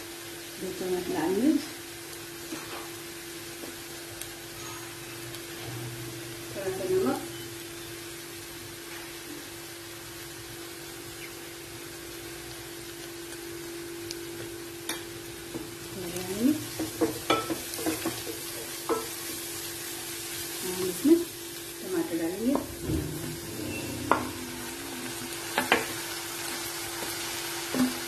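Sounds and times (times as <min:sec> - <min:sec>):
light sizzle: 0:00.0 - 0:28.0.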